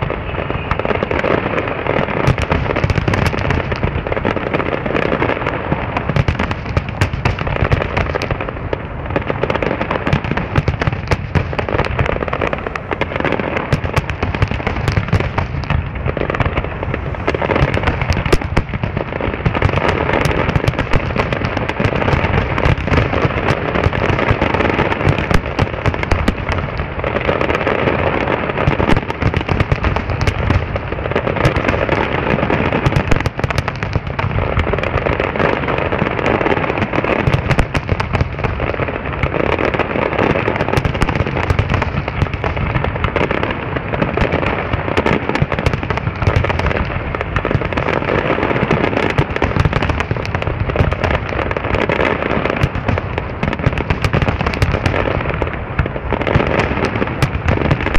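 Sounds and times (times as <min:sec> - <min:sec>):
fireworks exploding and crackling: 0:00.0 - 0:57.9.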